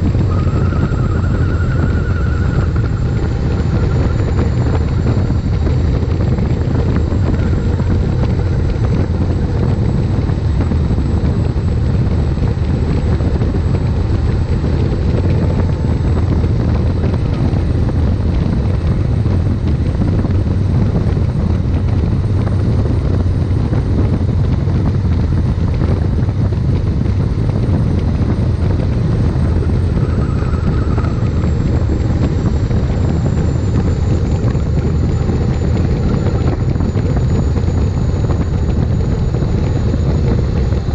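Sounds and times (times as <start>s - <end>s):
gas turbine engine whine and rumble: 0.0s - 40.9s.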